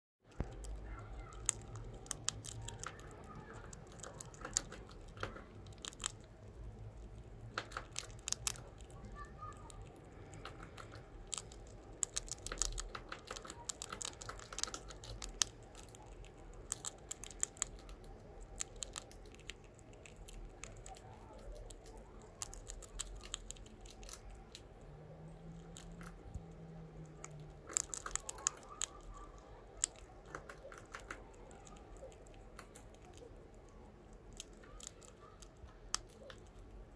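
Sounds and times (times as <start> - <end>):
rat chewing and crunching: 0.2 - 36.9.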